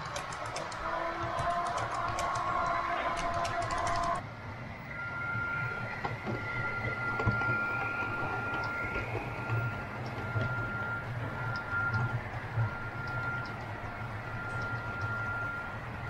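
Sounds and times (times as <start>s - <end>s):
wheels clicking over track: 0.0s - 4.2s, 5.8s - 15.6s.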